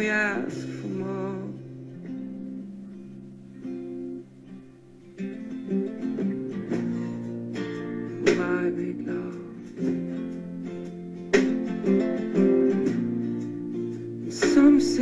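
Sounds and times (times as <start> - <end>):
plucked acoustic guitar music: 0.0 - 15.0.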